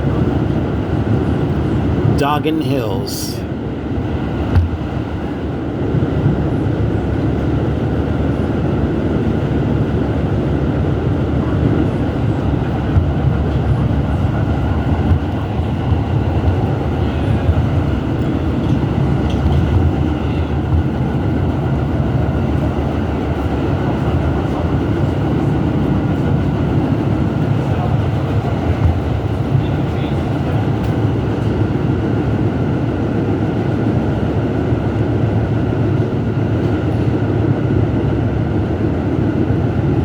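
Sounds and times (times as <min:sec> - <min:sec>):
subway train wheels rumbling: 0:00.0 - 0:40.0.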